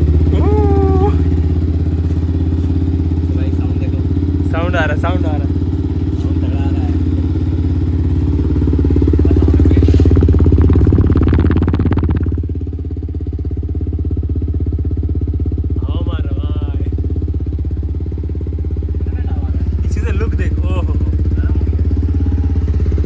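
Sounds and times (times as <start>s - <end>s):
motorcycle engine revving and idling: 0.0s - 23.0s.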